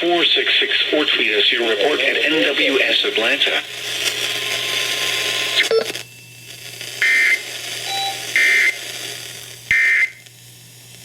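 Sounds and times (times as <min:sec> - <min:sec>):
buzzy digital data tones: 0:01.5 - 0:11.0.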